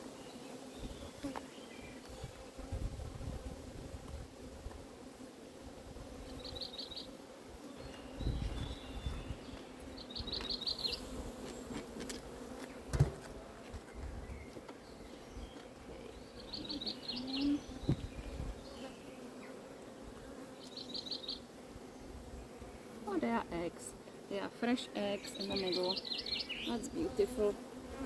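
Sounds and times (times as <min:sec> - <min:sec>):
bees humming: 0:00.0 - 0:28.0.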